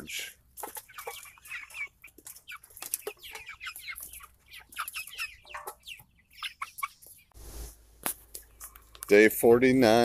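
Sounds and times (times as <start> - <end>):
chickens clucking: 0.0 - 7.4, 8.0 - 10.0.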